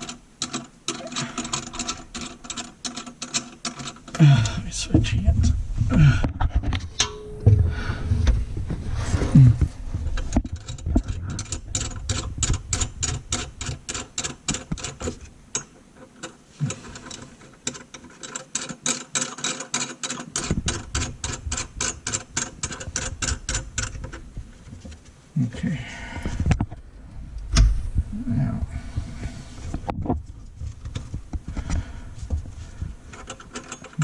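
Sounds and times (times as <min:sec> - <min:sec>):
knocks and handling sounds: 0:00.0 - 0:25.2, 0:28.7 - 0:34.0.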